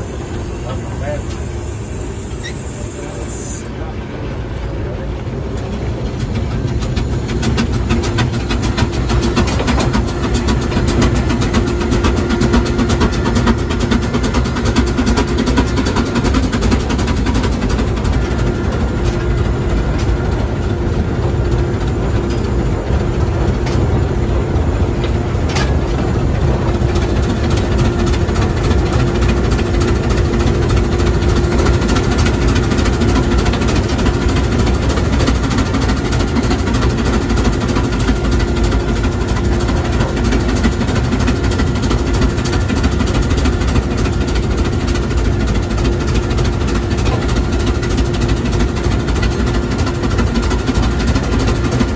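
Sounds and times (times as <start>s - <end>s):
steam locomotive running noise: 0.0s - 51.9s.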